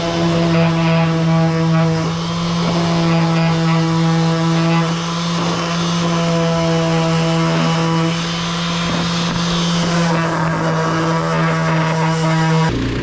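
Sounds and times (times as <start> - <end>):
orbital sander humming: 0.0 - 13.0.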